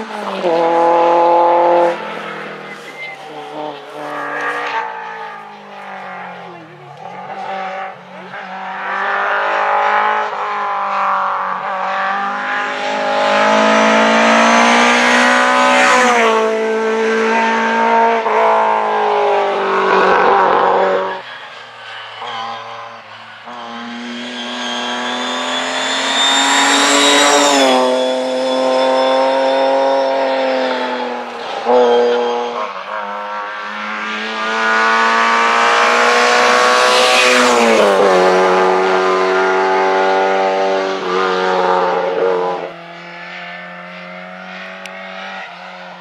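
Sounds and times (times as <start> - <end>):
rally car engines accelerating: 0.0 - 46.0.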